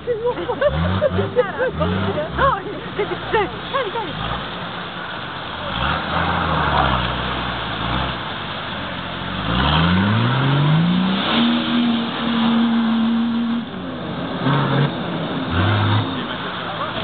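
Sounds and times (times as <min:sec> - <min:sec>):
suv engine revving hard: 0:00.3 - 0:17.0.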